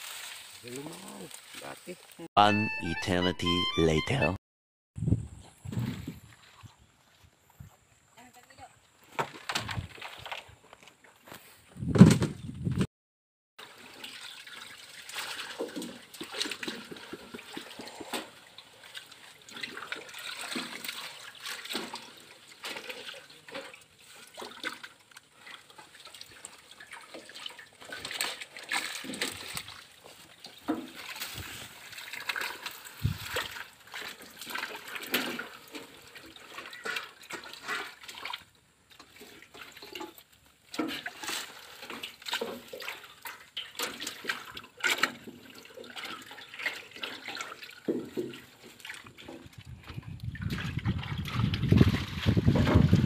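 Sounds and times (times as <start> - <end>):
water splashing and trickling: 0.0 - 2.3, 8.2 - 11.6, 13.6 - 53.0.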